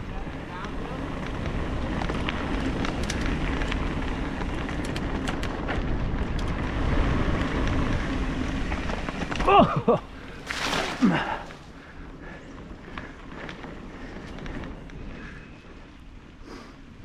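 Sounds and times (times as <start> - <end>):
bike clicks and rattles: 0.0 - 17.0
bike tyre noise on dirt: 0.0 - 17.0.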